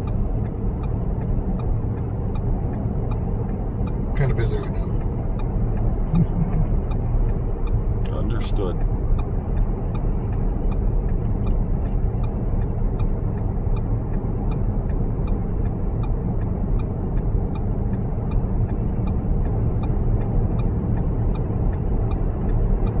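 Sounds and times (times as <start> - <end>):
faint regular tick: 0.0 - 5.9, 6.5 - 23.0
car driving from inside: 0.0 - 23.0.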